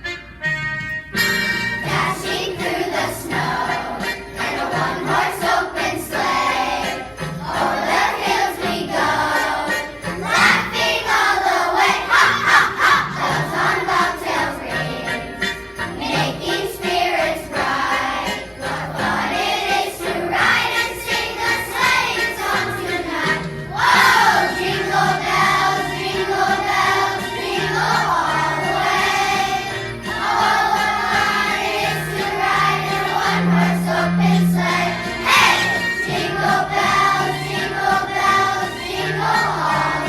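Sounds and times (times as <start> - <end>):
instrumental accompaniment: 0.0 - 40.0
choir singing: 1.8 - 40.0.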